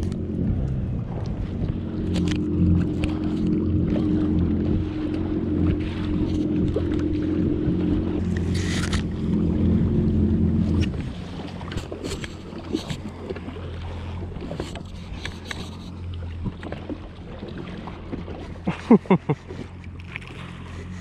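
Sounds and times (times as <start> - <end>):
jet ski engine humming: 0.0 - 21.0
water noise: 0.0 - 21.0.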